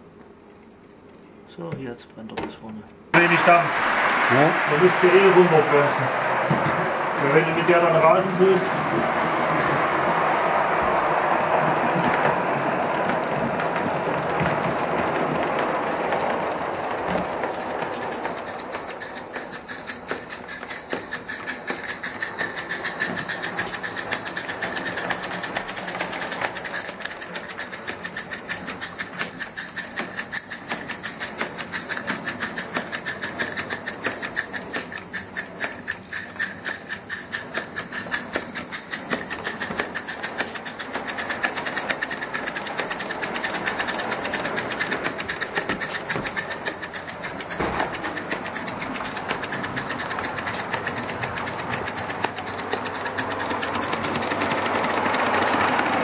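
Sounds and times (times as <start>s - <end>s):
model steam locomotive chuffing: 3.1s - 56.0s
steady steam hiss: 3.1s - 56.0s.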